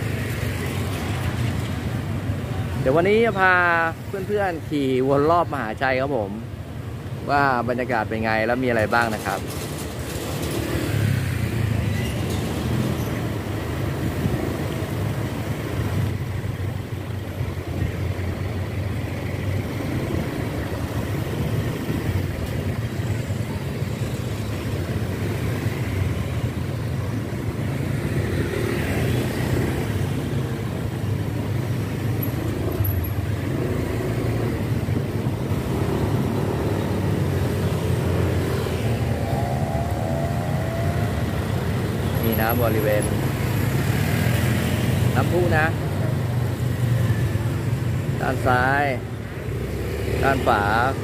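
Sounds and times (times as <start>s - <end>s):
motorbikes and cars passing: 0.0s - 51.0s
traffic rumble: 0.0s - 51.0s.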